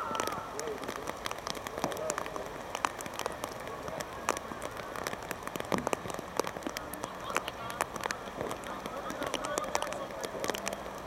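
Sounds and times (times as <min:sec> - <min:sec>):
raindrops ticking on surface: 0:00.0 - 0:11.0
steady rain hiss: 0:00.0 - 0:11.0.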